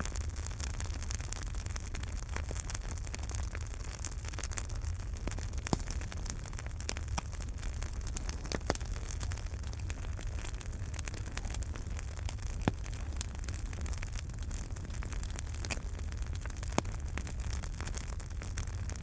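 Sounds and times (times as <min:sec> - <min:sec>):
low fire rumble and hiss: 0:00.0 - 0:19.0
wood fire crackling: 0:00.0 - 0:19.0
sharp fire pops: 0:00.2 - 0:19.0.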